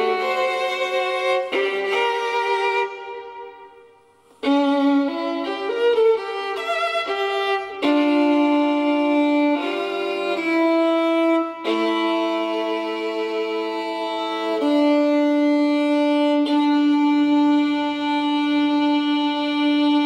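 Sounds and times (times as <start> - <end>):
solo violin playing: 0.0 - 20.0.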